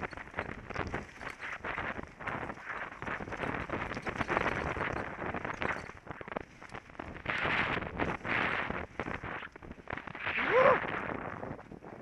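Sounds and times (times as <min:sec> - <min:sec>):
mountain bike rattling: 0:00.0 - 0:12.0
tyre and wind hiss: 0:00.0 - 0:12.0.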